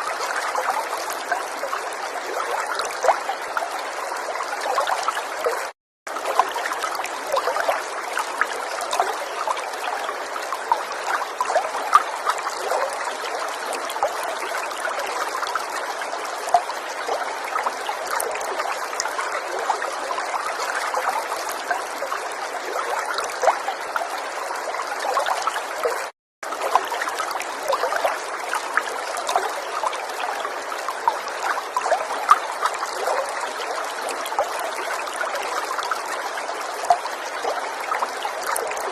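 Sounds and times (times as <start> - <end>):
river water babbling: 0.0 - 38.9
small water splashes: 0.0 - 38.9.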